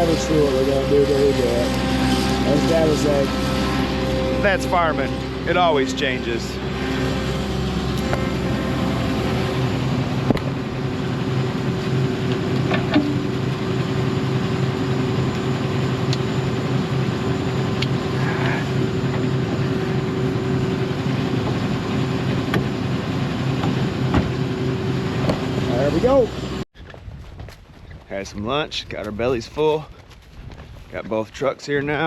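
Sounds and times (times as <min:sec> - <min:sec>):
vehicle engine humming: 0:00.0 - 0:26.6.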